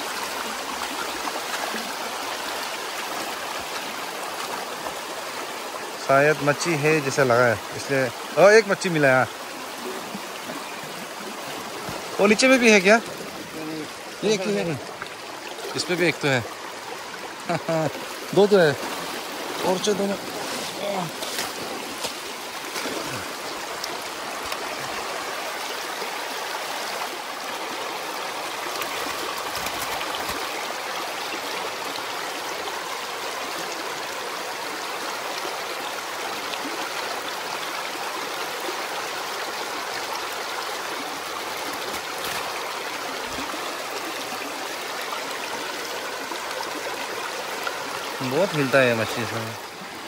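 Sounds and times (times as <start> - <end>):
mountain stream rushing: 0.0 - 50.0.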